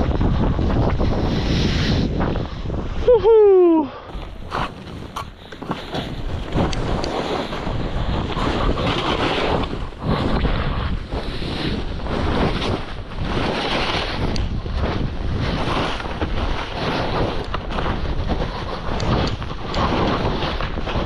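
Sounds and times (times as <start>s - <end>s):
wind rushing over microphone: 0.0s - 21.0s
skis hissing through snow: 4.1s - 21.0s.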